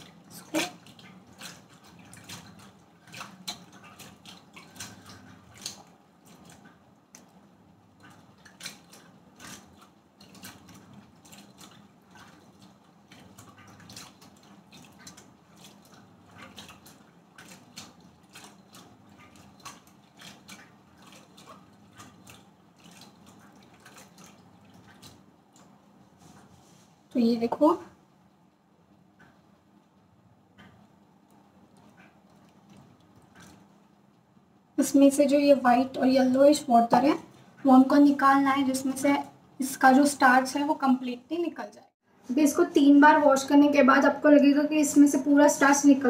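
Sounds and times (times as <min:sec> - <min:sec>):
water sloshing in a steel pot: 0:00.0 - 0:46.0.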